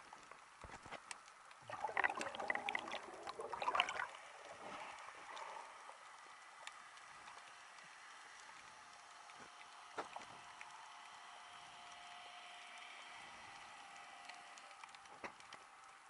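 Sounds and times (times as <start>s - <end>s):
faint steady hiss: 0.0s - 16.0s
underwater gurgling and crackling: 0.0s - 16.0s.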